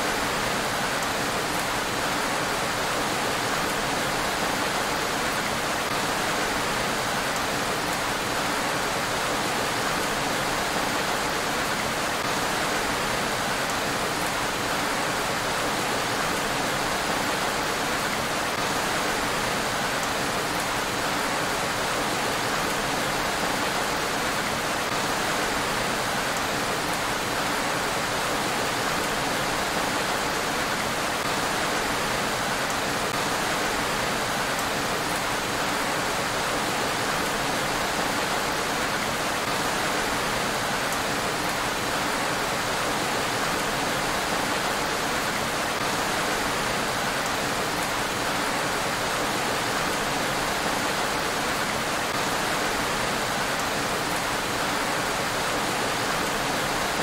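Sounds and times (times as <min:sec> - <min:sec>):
rain falling on road: 0:00.0 - 0:57.0.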